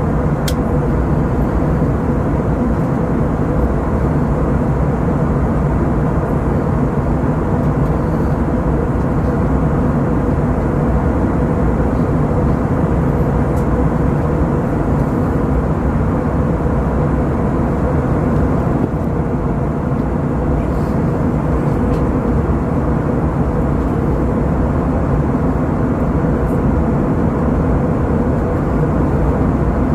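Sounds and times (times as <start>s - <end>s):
aircraft cabin engine noise: 0.0s - 29.9s.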